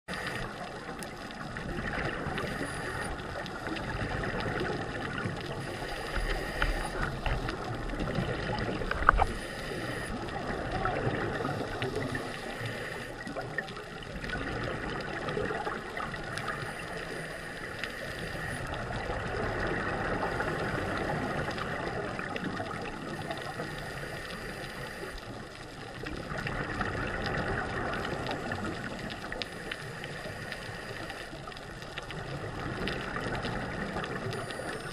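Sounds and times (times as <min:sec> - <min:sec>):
scuba regulator breathing with bubbles: 0:00.1 - 0:25.6, 0:26.2 - 0:34.9.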